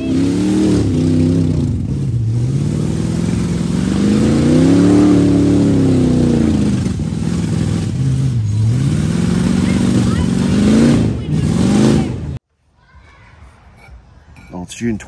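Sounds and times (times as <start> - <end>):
car engine revving hard: 0.0 - 12.4
tyres churning through mud: 0.0 - 12.4.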